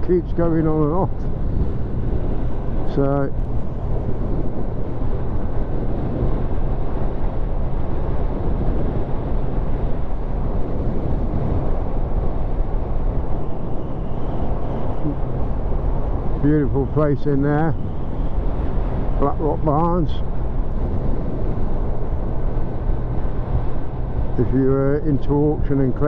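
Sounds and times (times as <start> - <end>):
motorcycle engine hum: 0.0 - 26.0
wind and road noise: 0.0 - 26.0.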